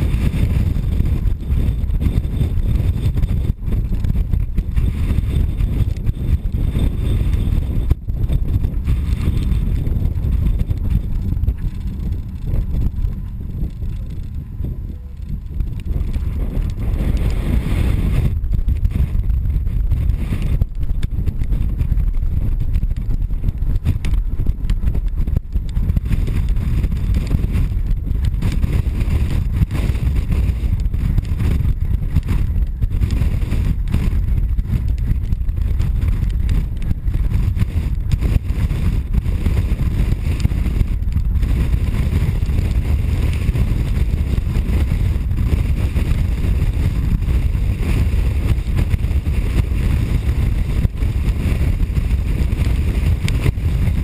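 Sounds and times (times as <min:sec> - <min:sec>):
vehicle wind and road noise: 0:00.0 - 0:54.0.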